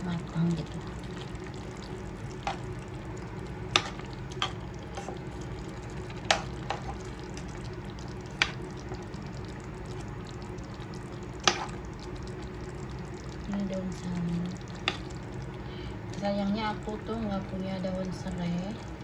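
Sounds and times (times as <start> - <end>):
curry sizzling in a pan: 0.0 - 19.0.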